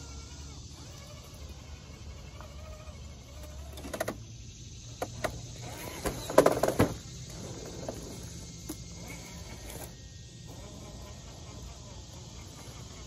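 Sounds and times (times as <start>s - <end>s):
electric motor and drivetrain whining: 0.0s - 13.0s.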